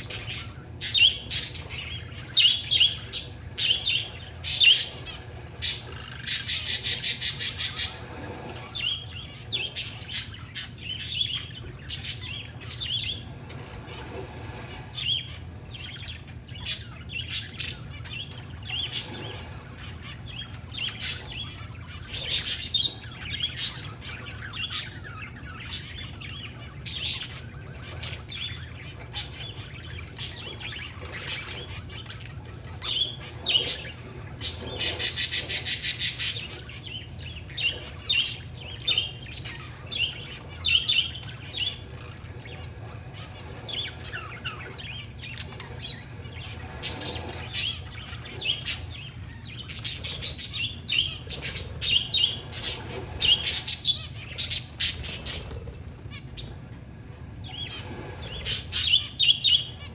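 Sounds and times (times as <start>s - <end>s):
birds chirping: 0.0s - 59.9s
steady low hum: 0.0s - 59.9s.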